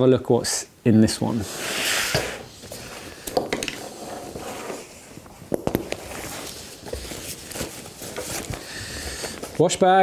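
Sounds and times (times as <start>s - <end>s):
fabric rustling and scraping: 1.4s - 10.0s.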